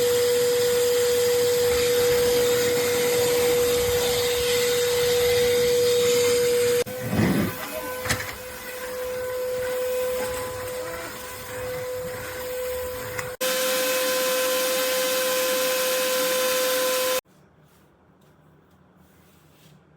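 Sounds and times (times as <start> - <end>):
stick vacuum motor whining: 0.0 - 17.2.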